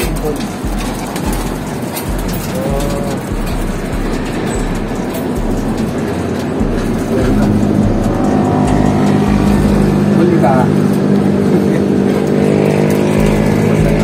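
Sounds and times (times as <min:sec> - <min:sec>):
street traffic: 0:00.0 - 0:14.0
vehicle engine humming: 0:00.0 - 0:14.0.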